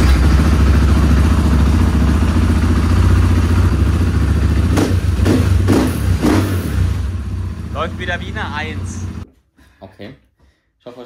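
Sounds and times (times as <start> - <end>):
motorcycle engine idling: 0.0 - 9.2.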